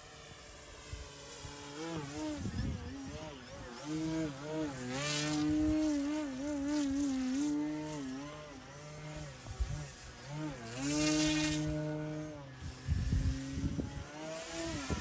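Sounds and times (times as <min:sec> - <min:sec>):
model plane propeller buzzing: 0:00.0 - 0:15.0.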